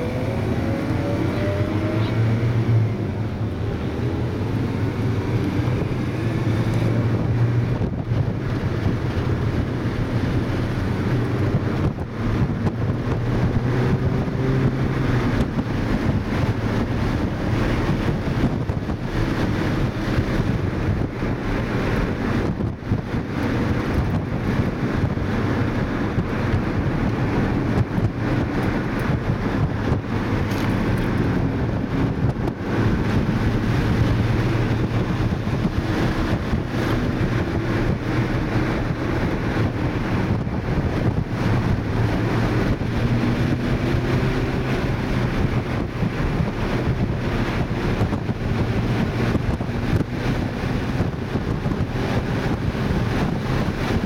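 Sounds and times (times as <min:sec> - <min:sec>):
car engine revving: 0:00.0 - 0:54.0
road noise: 0:00.0 - 0:54.0
wind noise: 0:00.0 - 0:54.0.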